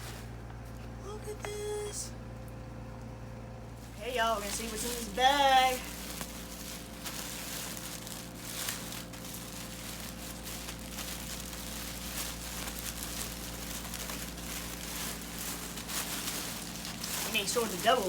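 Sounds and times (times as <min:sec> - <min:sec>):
bag rustling and crinkling: 0:00.0 - 0:00.7, 0:03.7 - 0:18.0.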